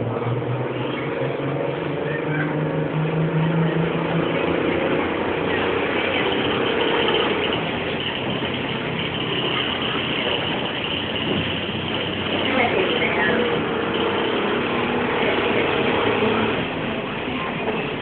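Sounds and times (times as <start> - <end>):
bus diesel engine humming: 0.0 - 18.0.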